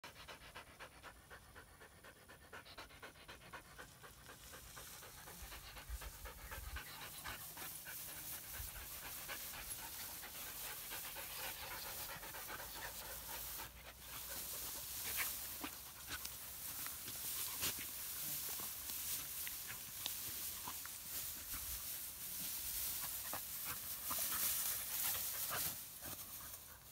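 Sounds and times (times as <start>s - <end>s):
dog panting: 0.0s - 26.9s
rustling through tall grass: 2.6s - 26.9s.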